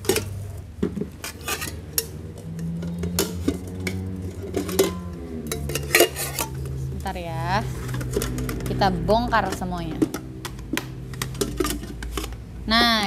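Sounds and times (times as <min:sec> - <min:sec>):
metal pots knocking and clinking: 0:00.0 - 0:13.0.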